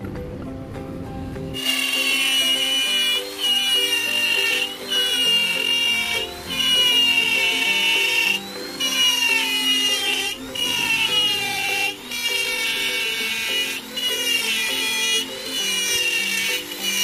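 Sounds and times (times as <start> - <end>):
background music: 0.0 - 17.0
power tool motor whining: 1.5 - 17.0.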